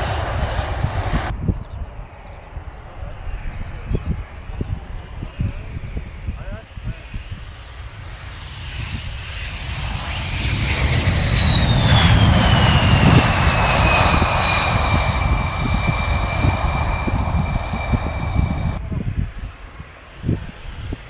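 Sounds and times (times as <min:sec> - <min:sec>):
high jet engine whine: 0:00.0 - 0:21.0
jet aircraft flying past: 0:00.0 - 0:21.0.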